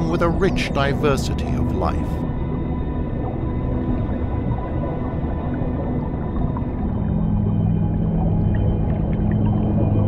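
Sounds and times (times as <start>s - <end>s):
film score low held notes: 0.0s - 10.0s.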